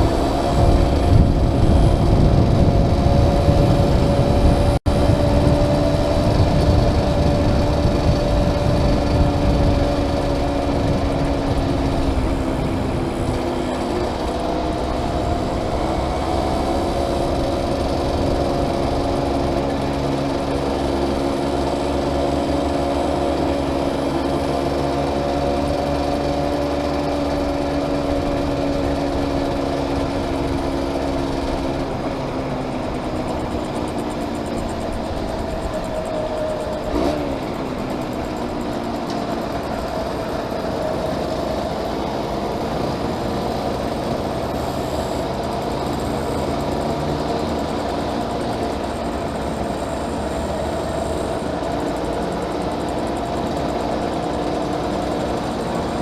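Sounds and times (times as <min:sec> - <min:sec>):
motorcycle engine cruising: 0:00.0 - 0:56.0
wind rumble on microphone: 0:00.0 - 0:56.0.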